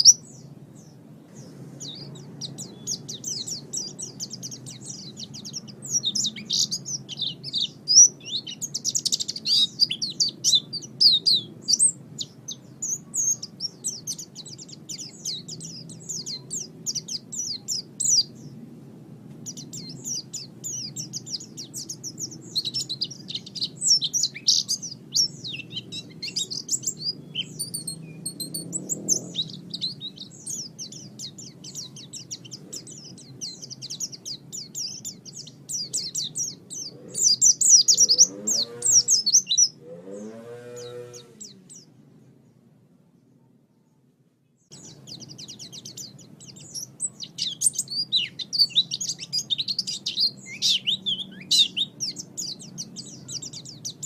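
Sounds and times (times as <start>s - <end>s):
lower arching bird calls: 0.0s - 18.7s, 19.3s - 42.4s, 44.7s - 54.0s
songbirds chirping and twittering: 0.0s - 54.0s.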